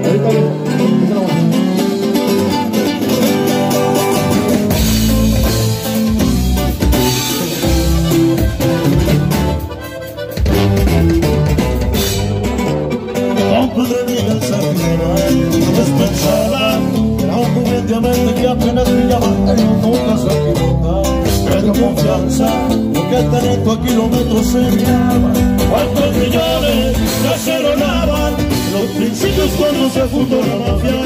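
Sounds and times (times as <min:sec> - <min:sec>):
live band with accordion and guitar: 0:00.0 - 0:31.0.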